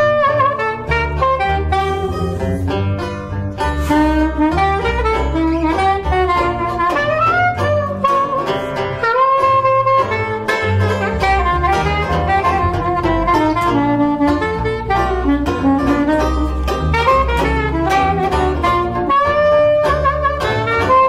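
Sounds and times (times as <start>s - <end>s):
plucked double bass: 0.0s - 21.0s
soprano saxophone melody: 0.0s - 21.0s
strummed banjo chords: 0.0s - 21.0s.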